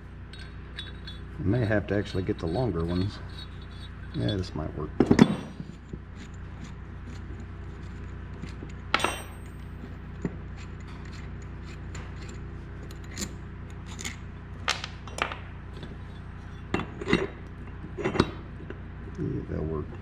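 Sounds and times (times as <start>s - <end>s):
low hum: 0.0s - 20.0s
metal parts clinking: 0.3s - 9.8s, 10.6s - 17.4s, 18.0s - 18.4s.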